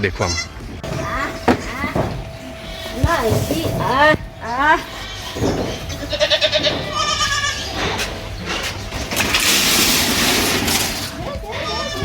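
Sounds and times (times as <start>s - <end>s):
goat kids bleating: 0.2s - 9.2s, 11.3s - 12.0s.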